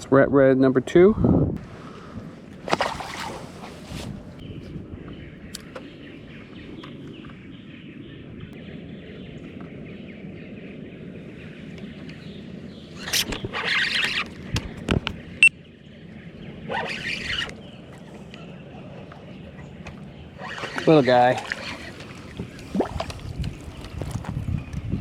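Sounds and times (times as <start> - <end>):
outdoor background on water: 0.0 - 25.0.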